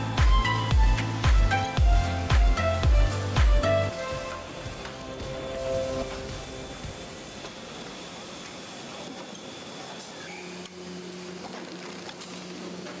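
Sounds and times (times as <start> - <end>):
machinery whirring with hiss: 0.0 - 13.0.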